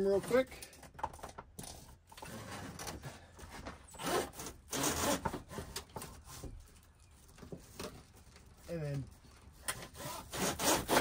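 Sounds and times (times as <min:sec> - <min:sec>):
wire rustling and scraping: 0:00.0 - 0:11.0.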